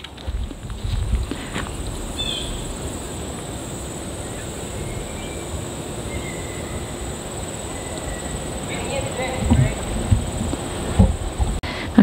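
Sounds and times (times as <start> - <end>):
wind rumbling against microphone: 0.0 - 12.0.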